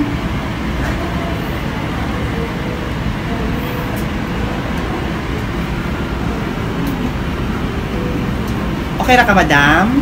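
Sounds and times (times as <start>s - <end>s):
low rumbling background noise: 0.0s - 10.0s.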